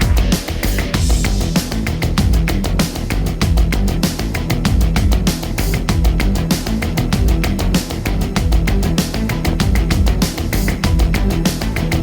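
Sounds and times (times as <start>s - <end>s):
distorted guitar: 0.0s - 12.0s
driving drum beat: 0.0s - 12.0s
heavy rock music: 0.0s - 12.0s.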